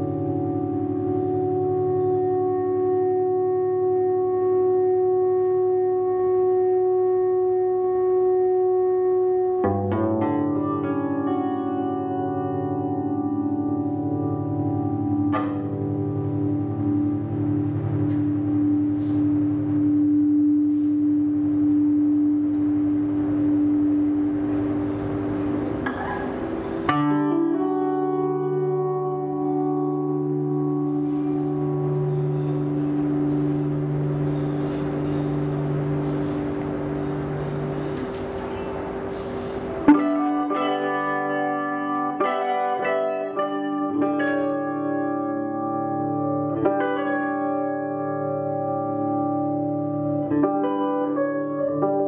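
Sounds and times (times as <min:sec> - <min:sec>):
electric guitar sustained note: 0:00.0 - 0:52.0
low wavering tone: 0:00.0 - 0:52.0.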